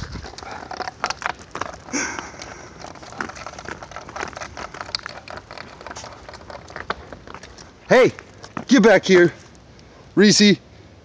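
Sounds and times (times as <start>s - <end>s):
stick scraping on asphalt: 0.0s - 10.2s.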